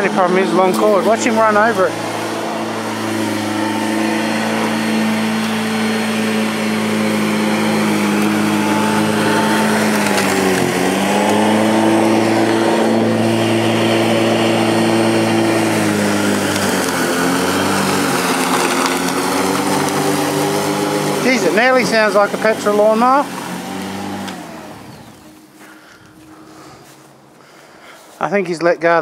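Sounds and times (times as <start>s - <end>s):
electric lawn mower running: 0.0s - 28.1s.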